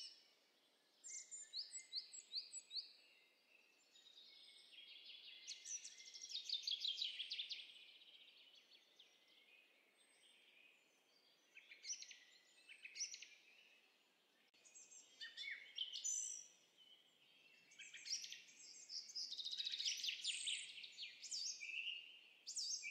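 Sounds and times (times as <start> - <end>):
birds chirping and trilling: 0.0 - 22.9.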